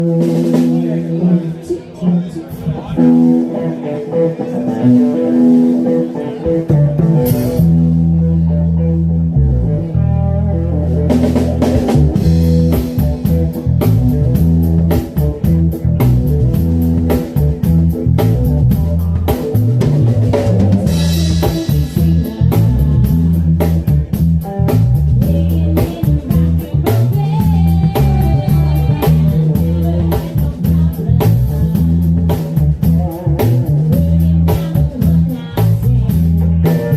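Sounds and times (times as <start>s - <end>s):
drum kit: 0.0s - 1.6s, 2.4s - 36.9s
bass: 0.0s - 36.9s
guitar: 0.0s - 36.9s.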